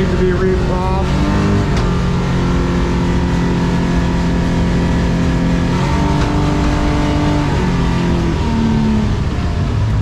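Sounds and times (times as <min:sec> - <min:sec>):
boat engine at full throttle: 0:00.0 - 0:10.0.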